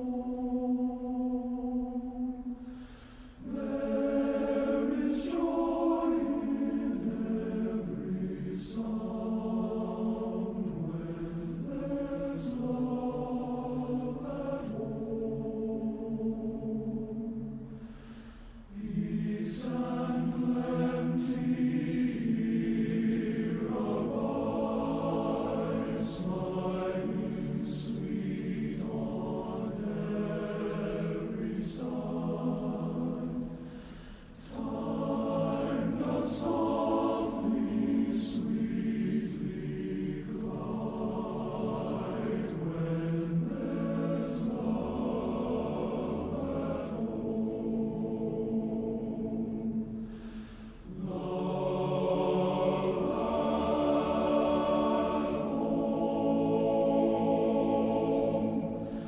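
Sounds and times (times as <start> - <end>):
choir singing held chords: 0.0 - 59.0.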